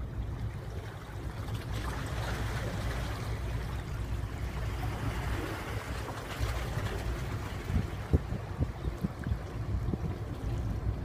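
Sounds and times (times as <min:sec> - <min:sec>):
water washing and lapping: 0:00.0 - 0:11.0.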